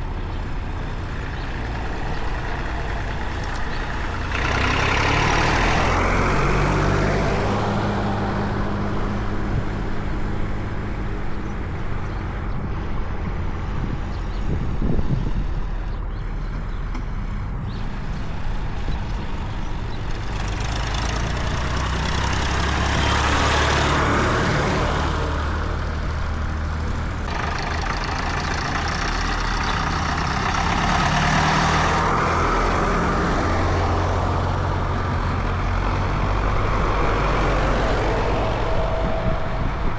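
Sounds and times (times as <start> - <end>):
tractors driving past: 0.0 - 39.9.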